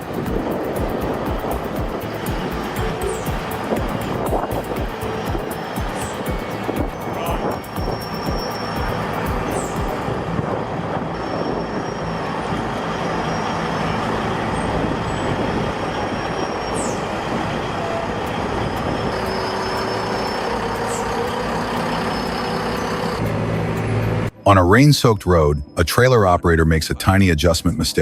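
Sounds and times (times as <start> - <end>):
heavy truck engine and road noise: 0.0 - 28.0.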